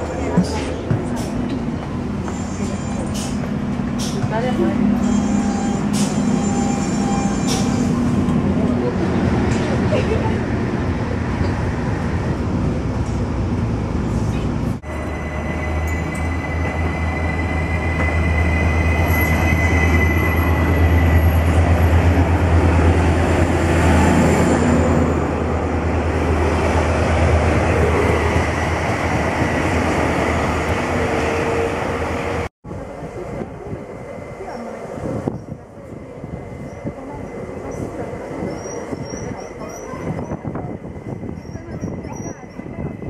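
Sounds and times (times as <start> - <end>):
rumble inside train carriage: 0.0 - 43.0
train low hum: 0.0 - 43.0.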